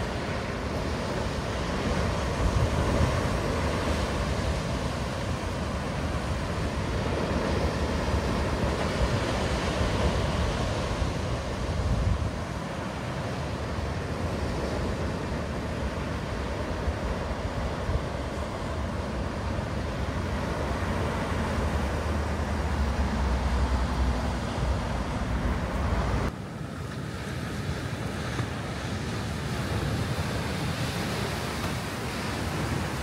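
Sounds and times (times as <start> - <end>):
sea waves breaking: 0.0 - 33.0.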